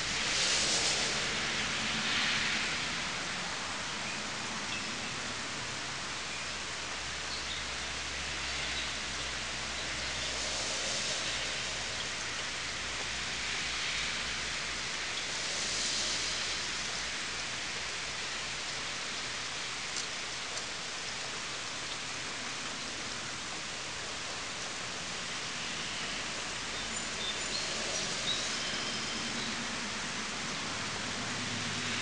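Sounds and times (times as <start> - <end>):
rain falling on trees: 0.0 - 32.0.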